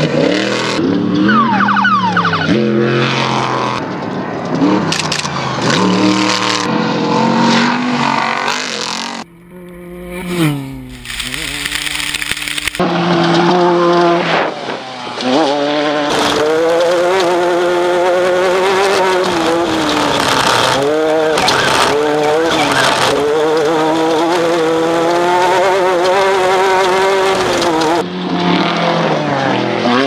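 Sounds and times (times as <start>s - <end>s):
buggy engine revving: 0.0s - 30.0s.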